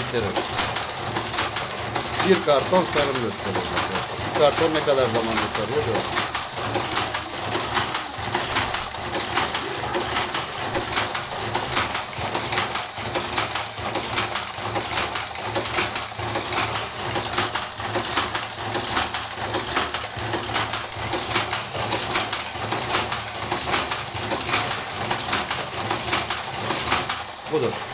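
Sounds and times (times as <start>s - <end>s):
cigarette rolling machine running: 0.0s - 27.9s.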